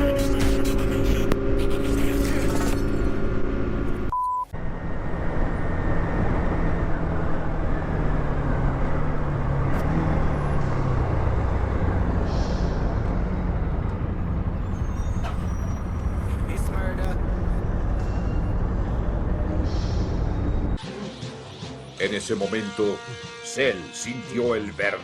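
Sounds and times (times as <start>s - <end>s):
wind and road noise: 0.0s - 20.8s.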